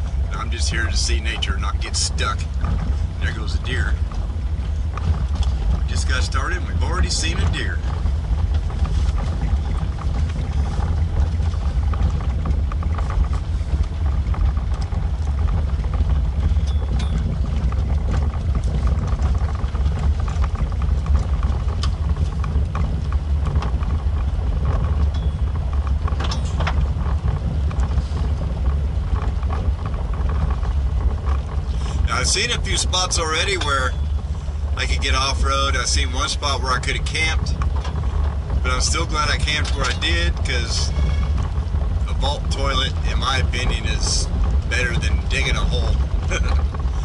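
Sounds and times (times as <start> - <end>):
vehicle rumbling on gravel: 0.0 - 47.0.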